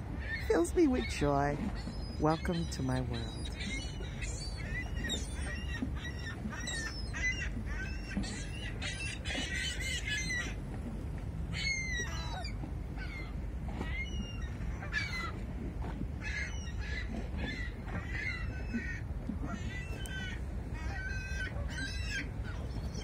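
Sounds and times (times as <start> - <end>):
seagulls squawking: 0.1 - 10.6, 11.5 - 15.6, 16.2 - 23.0.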